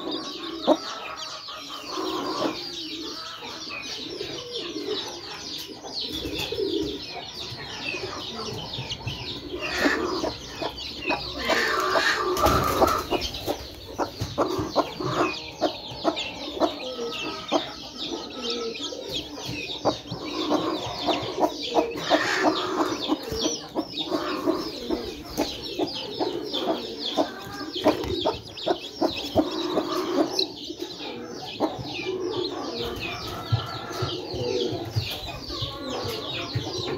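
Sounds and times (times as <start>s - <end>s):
chicks peeping: 0.0s - 36.9s
hen clucking: 0.0s - 36.9s.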